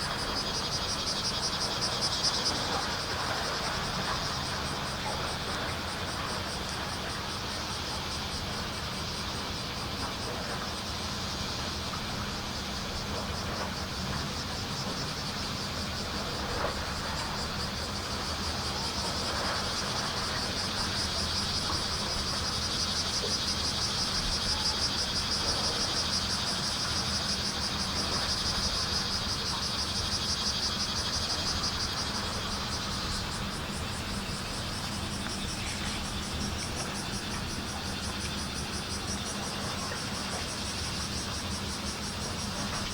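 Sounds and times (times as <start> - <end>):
cicadas droning: 0.0 - 42.9.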